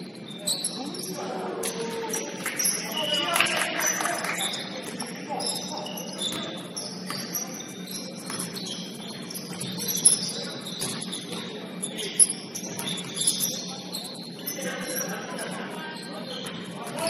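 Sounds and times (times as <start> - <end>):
shoes squeaking on gym floor: 0.0 - 17.0.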